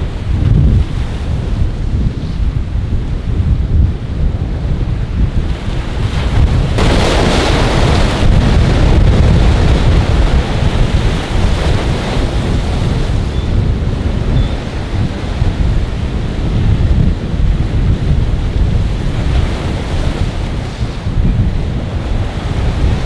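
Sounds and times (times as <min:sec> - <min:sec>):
choppy surf: 0:00.0 - 0:23.0
wind buffeting microphone: 0:00.0 - 0:23.0.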